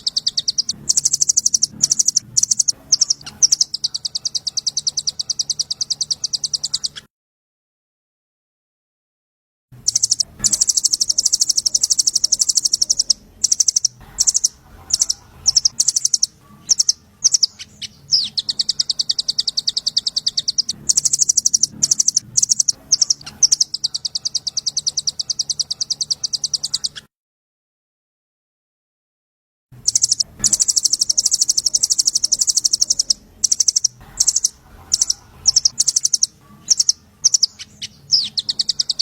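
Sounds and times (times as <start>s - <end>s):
songbird trills: 0.0s - 7.1s, 9.8s - 27.1s, 29.8s - 39.0s.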